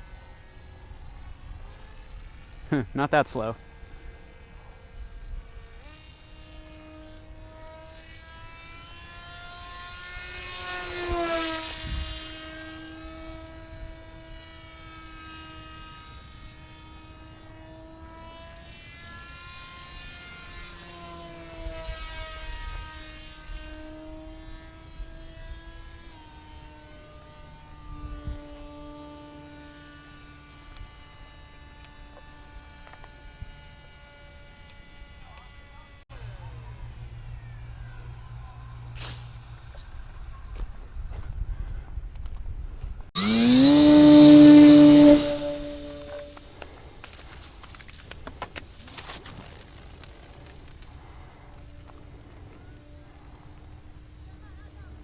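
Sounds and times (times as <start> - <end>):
model airplane motor whining: 0.0 - 40.8, 43.1 - 55.0
model airplane passing close: 0.0 - 42.4, 43.1 - 55.0.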